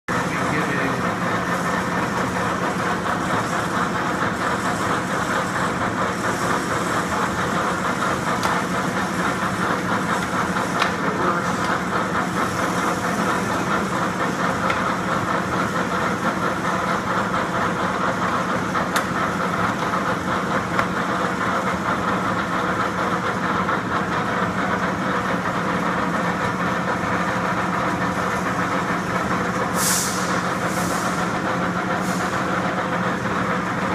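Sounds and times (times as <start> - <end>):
lathe running with constant hum: 0.1 - 33.9.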